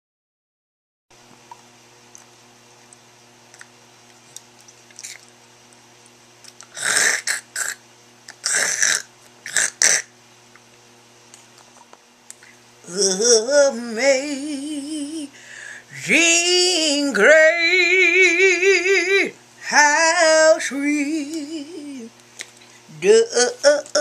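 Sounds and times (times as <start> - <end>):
steady electrical hum: 1.1 - 24.0.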